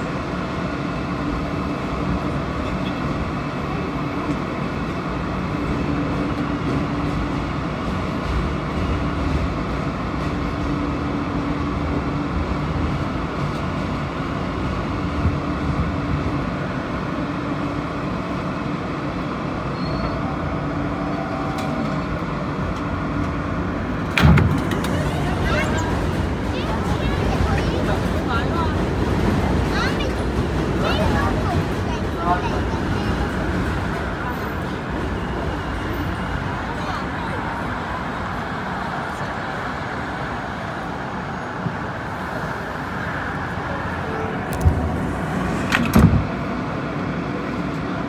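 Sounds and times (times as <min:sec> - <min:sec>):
subway car wheels rumbling on rail: 0:00.0 - 0:48.0.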